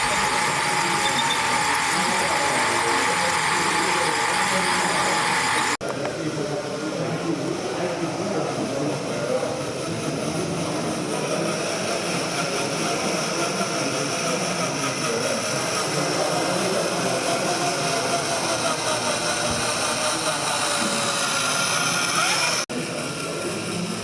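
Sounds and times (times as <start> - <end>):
busy exhibition hall din: 0.0 - 24.0.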